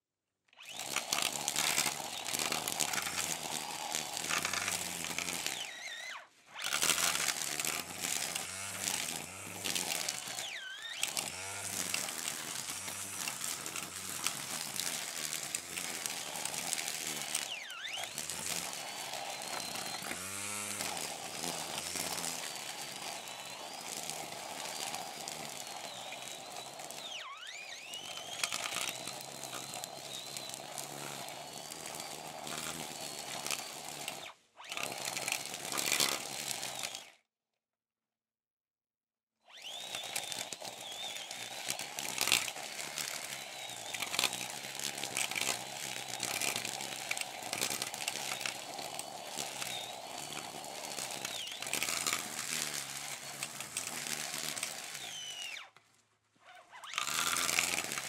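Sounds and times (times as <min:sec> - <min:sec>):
brush cutter engine revving: 0:00.6 - 0:37.2, 0:39.5 - 0:55.8, 0:56.5 - 0:58.0.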